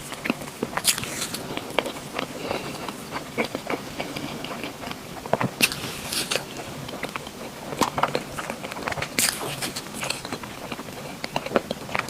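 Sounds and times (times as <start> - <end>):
chewing with wet mouth clicks: 0.0 - 12.0.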